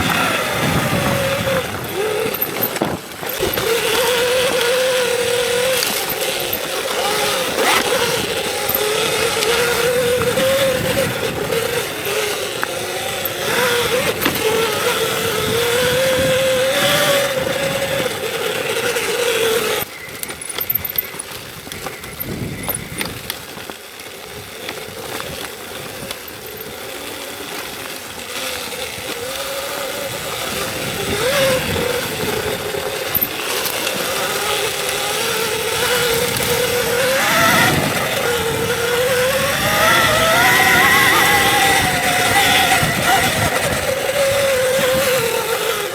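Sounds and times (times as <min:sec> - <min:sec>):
electric motor whining: 0:00.0 - 0:45.9.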